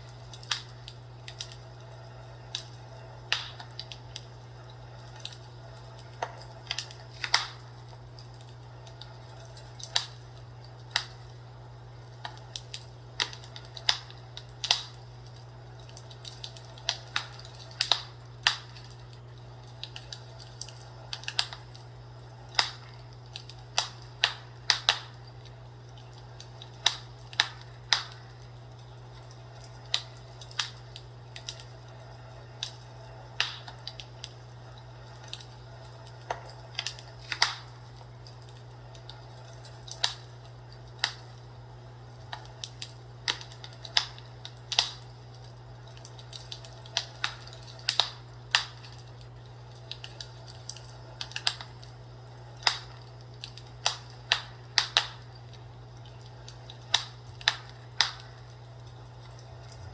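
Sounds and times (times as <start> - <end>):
fireplace crackling: 0.0 - 59.9.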